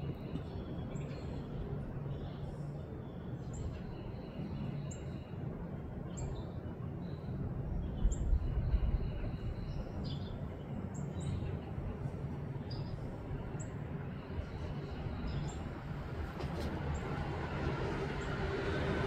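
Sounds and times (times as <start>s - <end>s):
small birds chirping: 0.0s - 16.0s
low background rumble: 0.0s - 19.0s.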